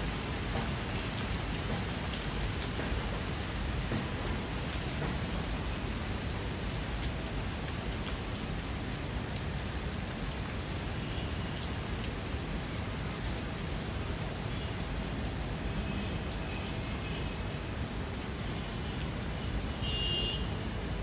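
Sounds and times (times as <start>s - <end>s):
individual raindrops: 0.0s - 21.0s
steady rainfall: 0.0s - 21.0s.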